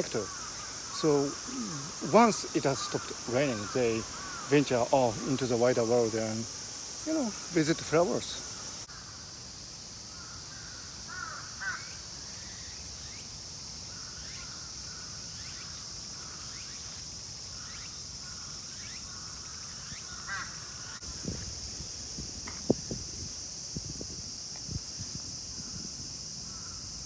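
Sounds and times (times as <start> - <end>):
insects chorus: 0.0 - 27.0.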